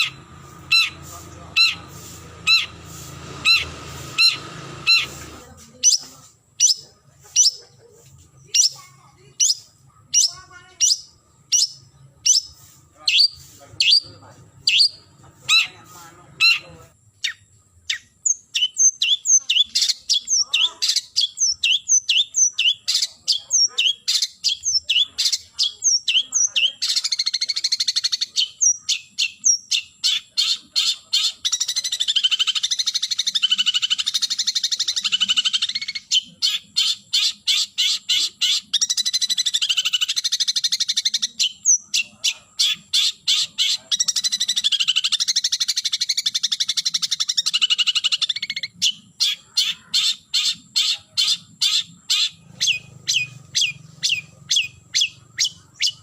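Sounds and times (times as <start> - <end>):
shrike sharp down-slurred calls: 0.0 - 7.8, 8.5 - 56.0
shrike harsh chattering: 0.0 - 56.0.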